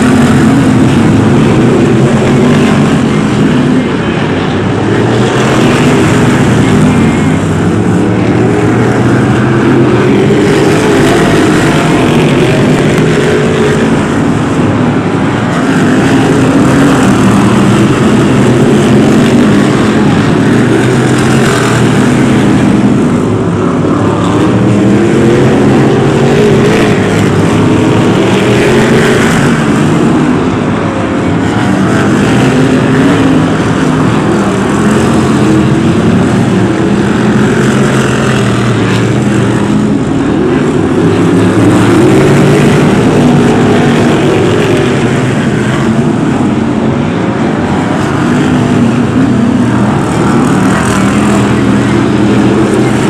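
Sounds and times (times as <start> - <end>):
racing car engines: 0.0 - 53.0.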